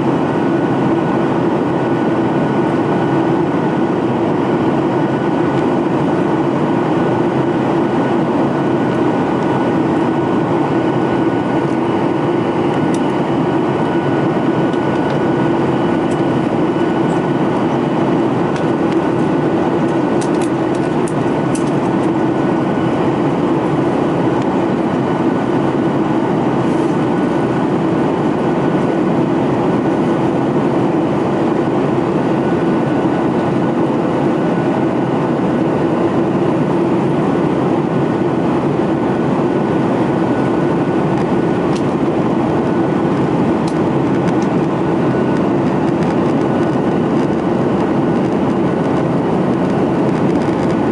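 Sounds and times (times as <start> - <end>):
jet engine and airflow drone: 0.0 - 50.9
thin steady whines: 0.0 - 50.9.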